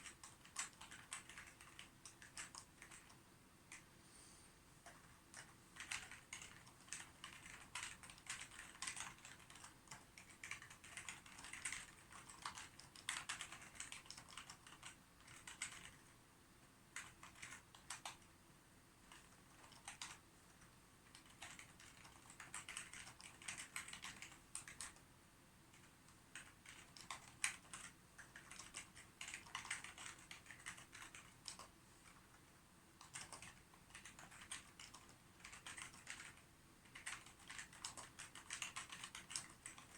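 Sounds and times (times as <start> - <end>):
typing on computer keyboard: 0.0 - 3.9, 4.8 - 16.1, 16.9 - 18.3, 19.0 - 25.1, 25.7 - 39.9.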